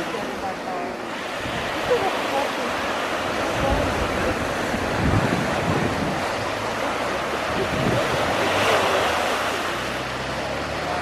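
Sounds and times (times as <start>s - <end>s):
ocean surf breaking on shore: 0.0s - 11.0s.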